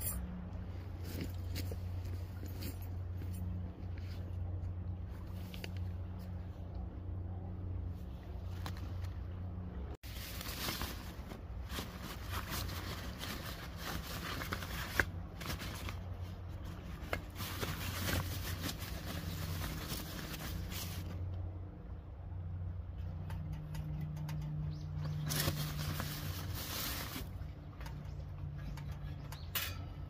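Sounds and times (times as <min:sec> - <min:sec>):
gear rustling and scraping: 0:00.0 - 0:06.6, 0:10.0 - 0:21.4, 0:22.8 - 0:30.0.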